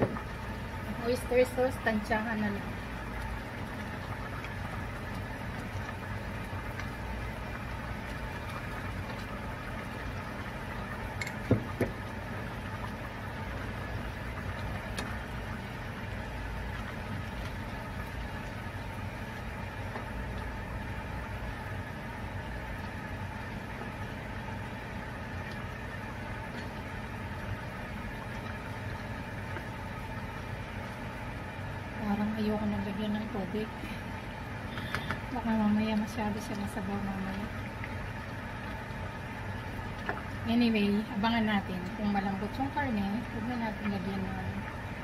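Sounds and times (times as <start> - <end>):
food simmering in a frying pan: 0.0 - 45.0
steady low hum: 0.0 - 45.0.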